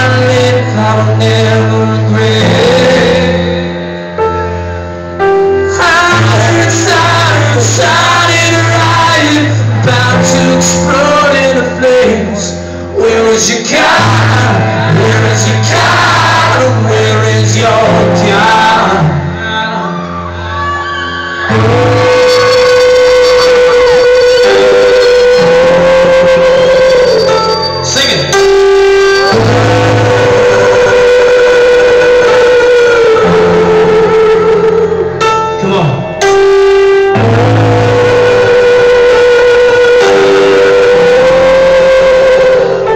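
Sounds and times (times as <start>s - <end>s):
man singing: 0.0s - 3.9s, 5.3s - 20.1s, 21.4s - 42.9s.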